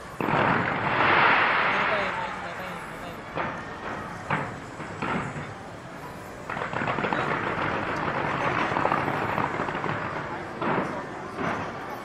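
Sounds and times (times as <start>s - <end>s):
firework crackle: 0.0s - 12.0s
firework booms: 0.1s - 5.8s, 6.4s - 12.0s.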